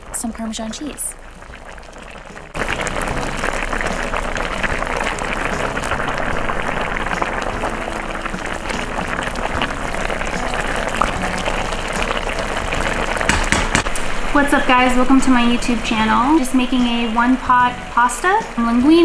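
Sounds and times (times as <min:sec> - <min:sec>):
pasta water boiling: 0:00.0 - 0:19.0.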